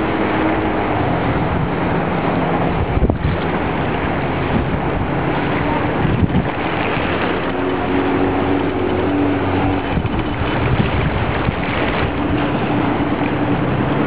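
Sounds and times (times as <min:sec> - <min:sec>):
jet ski engine droning: 0:00.0 - 0:14.0
wind noise on microphone: 0:00.0 - 0:14.0.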